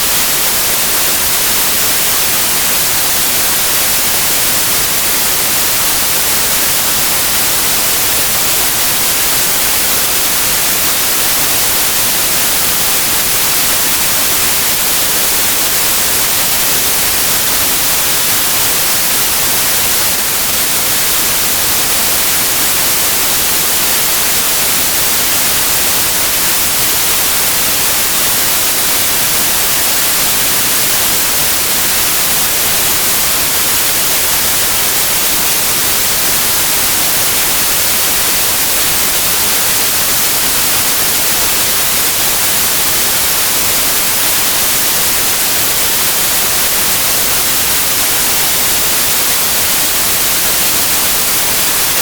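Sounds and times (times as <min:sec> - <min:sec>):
steady white noise: 0:00.0 - 0:52.0.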